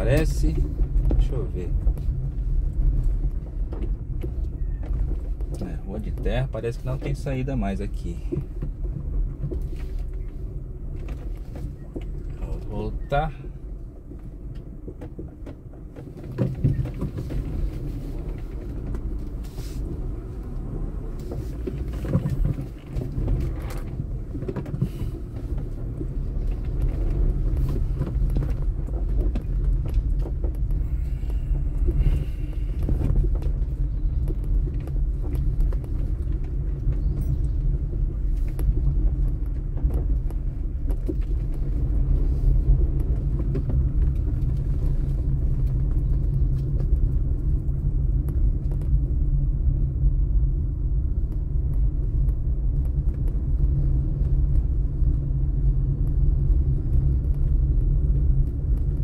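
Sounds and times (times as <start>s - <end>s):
car body rattling over bumps: 0.0s - 59.0s
engine and tyre rumble: 0.0s - 59.0s.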